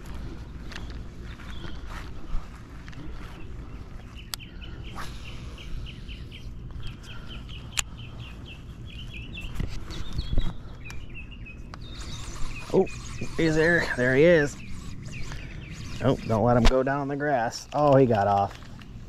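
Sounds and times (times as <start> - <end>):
wind rumble on microphone: 0.0 - 16.8
bird chirping: 0.2 - 19.0.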